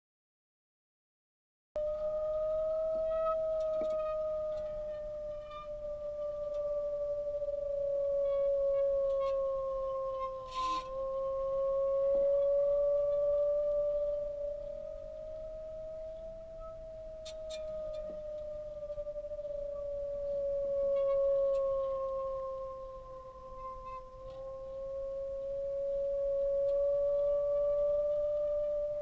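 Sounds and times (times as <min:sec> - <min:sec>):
sustained pure drone tone: 0:01.8 - 0:29.0.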